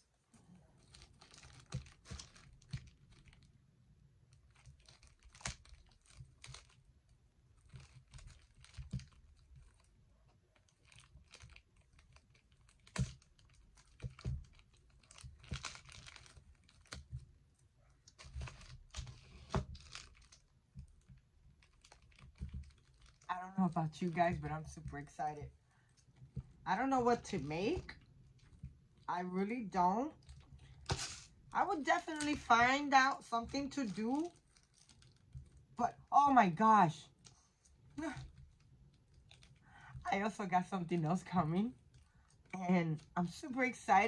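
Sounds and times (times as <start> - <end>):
plastic bags crinkling: 0.5 - 6.9, 7.5 - 17.3, 18.0 - 29.1, 30.0 - 35.8, 37.1 - 40.1.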